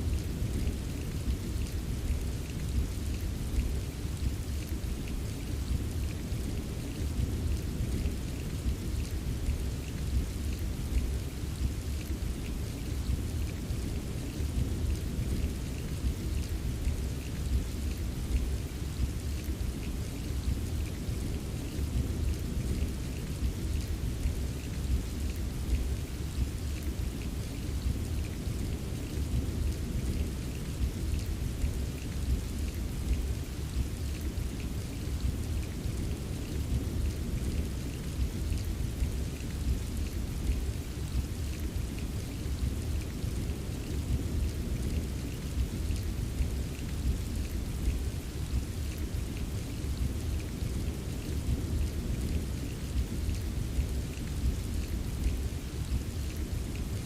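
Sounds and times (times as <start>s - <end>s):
steady rain: 0.0s - 57.0s
raindrops ticking: 0.2s - 57.0s.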